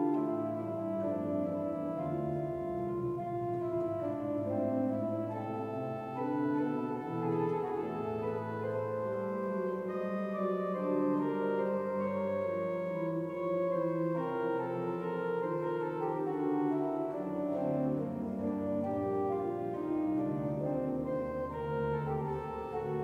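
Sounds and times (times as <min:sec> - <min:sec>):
church pipe organ chords: 0:00.0 - 0:23.0.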